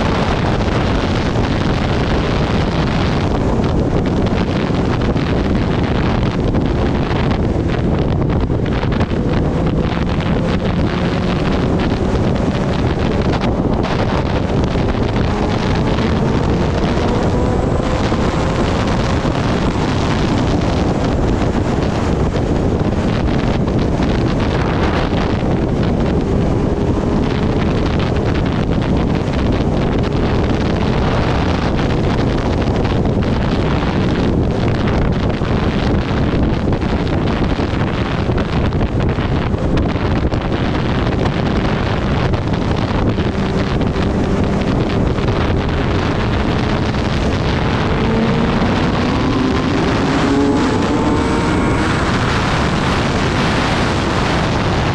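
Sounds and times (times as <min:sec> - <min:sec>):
motorcycle engine rising in pitch: 0:00.0 - 0:36.0, 0:37.0 - 0:54.9
wind buffeting microphone: 0:00.0 - 0:54.9.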